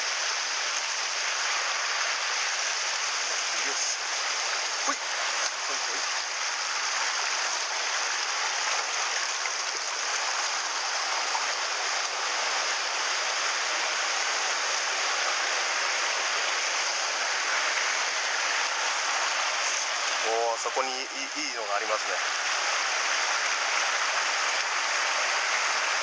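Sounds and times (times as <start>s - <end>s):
stream water rushing over rocks: 0.0s - 26.0s.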